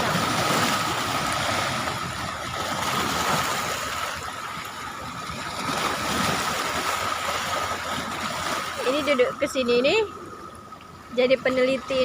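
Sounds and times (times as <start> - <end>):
waves washing against shore: 0.0 - 12.0.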